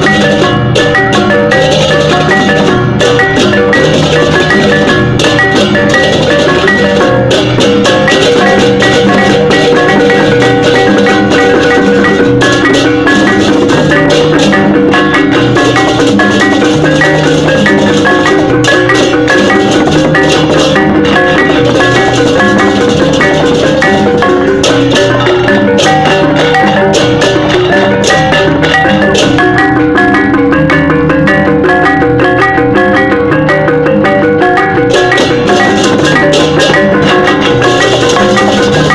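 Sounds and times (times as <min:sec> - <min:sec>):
drums: 0:00.0 - 0:38.9
ringing gong: 0:00.0 - 0:38.9
tuned metal percussion: 0:00.0 - 0:38.9.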